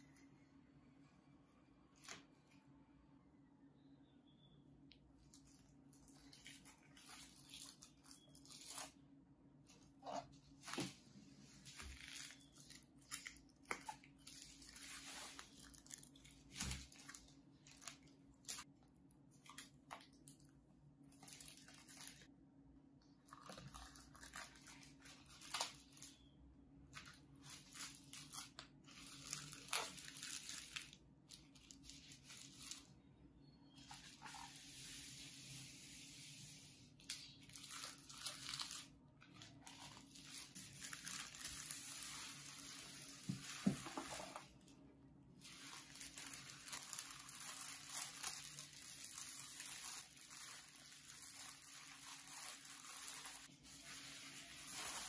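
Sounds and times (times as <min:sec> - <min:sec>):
bubble wrap rustling: 0:05.2 - 0:22.3, 0:23.2 - 0:33.0, 0:33.7 - 0:55.0.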